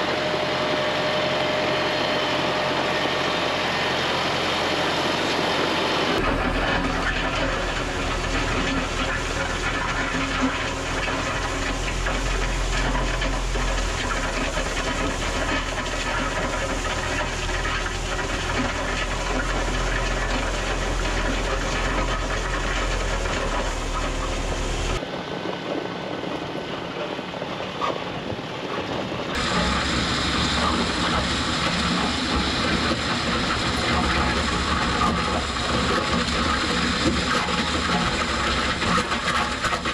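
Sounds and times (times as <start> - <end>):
gravel scraping and rattling: 0.0 - 39.9
tractor diesel engine running: 0.0 - 39.9.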